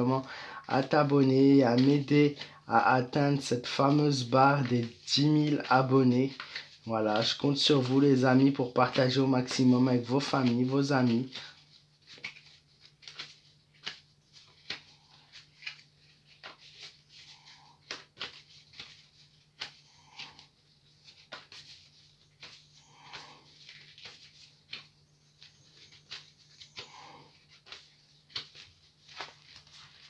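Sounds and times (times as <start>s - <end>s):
cards being shuffled: 0.0s - 30.0s.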